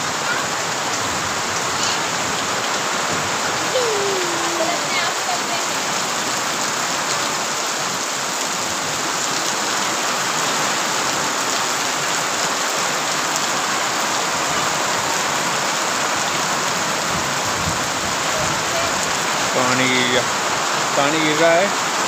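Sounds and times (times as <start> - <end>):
rain falling on open ground: 0.0 - 22.0.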